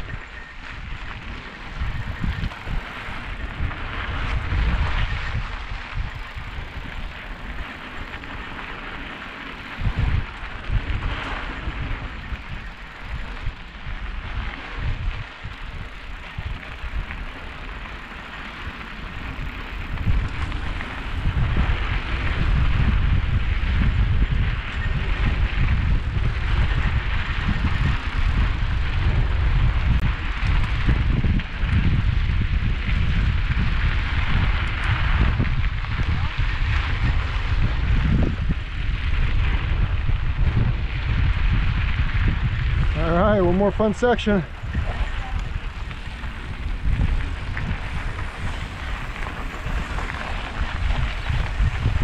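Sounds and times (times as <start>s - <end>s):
bike tyres crackling over grit: 0.0s - 52.0s
wind rumble on microphone: 0.0s - 52.0s.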